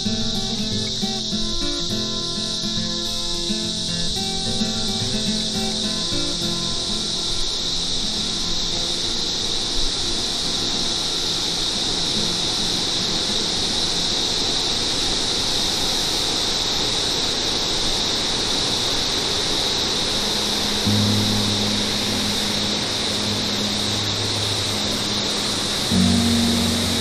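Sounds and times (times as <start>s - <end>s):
high-pitched insect chorus: 0.0s - 27.0s
waterfall rushing: 0.0s - 27.0s.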